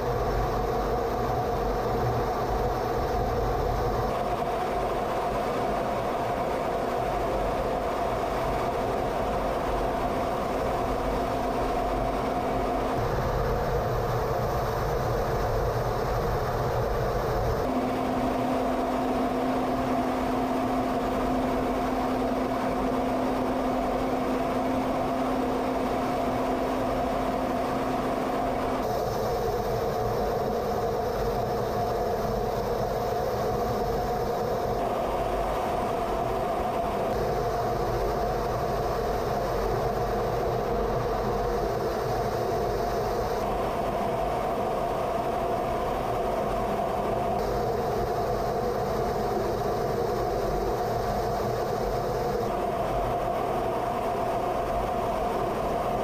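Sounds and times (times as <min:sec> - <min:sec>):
jet engine drone: 0:00.0 - 0:56.0
steady hum: 0:00.0 - 0:56.0.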